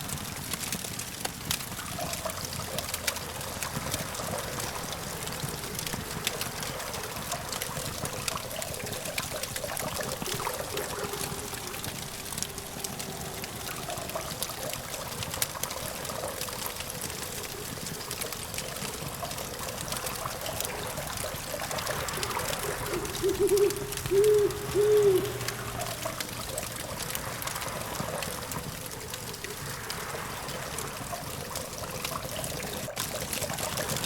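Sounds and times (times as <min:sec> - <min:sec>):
campfire crackling: 0:00.0 - 0:34.0
distant traffic hum: 0:01.0 - 0:34.0.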